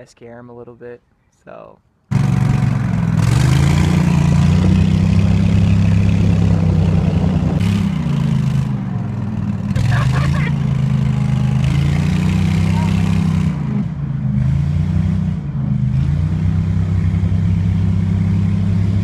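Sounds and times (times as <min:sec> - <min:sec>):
boat engine running hard: 0:02.1 - 0:13.9, 0:14.5 - 0:19.0.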